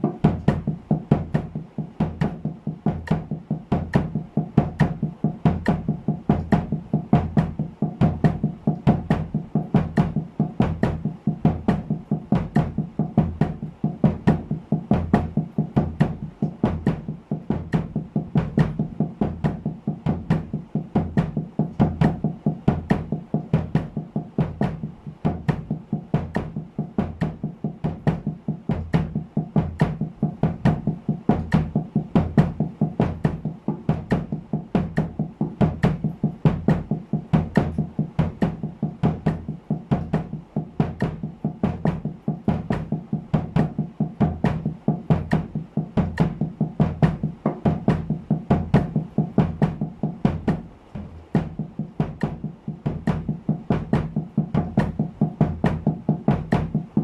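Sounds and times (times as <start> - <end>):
bass drum kicks: 0.0 - 57.0
muffled snare drum: 0.0 - 57.0.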